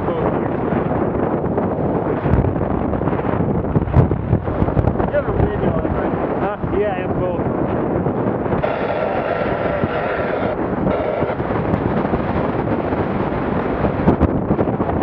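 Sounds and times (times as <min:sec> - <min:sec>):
motorboat running through water: 0:00.0 - 0:15.0
wind buffeting microphone: 0:00.0 - 0:15.0.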